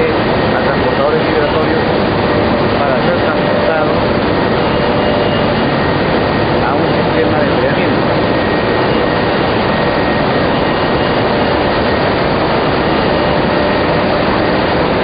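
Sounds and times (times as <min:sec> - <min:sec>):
faint high whine: 0:00.0 - 0:15.0
industrial machinery running: 0:00.0 - 0:15.0.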